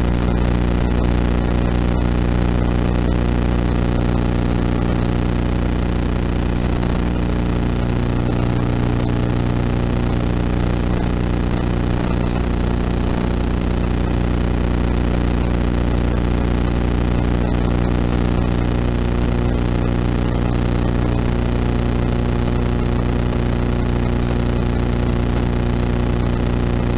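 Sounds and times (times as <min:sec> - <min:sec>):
electrical buzz with low hum: 0:00.0 - 0:26.9.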